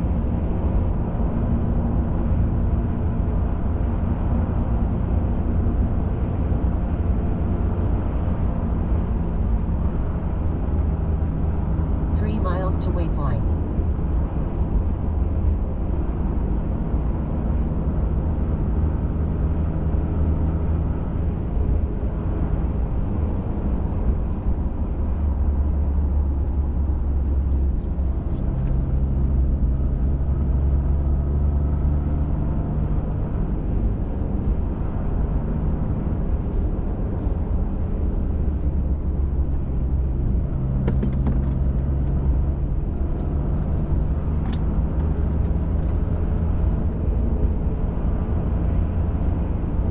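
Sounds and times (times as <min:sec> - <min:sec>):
truck engine and tyre drone: 0:00.0 - 0:49.9.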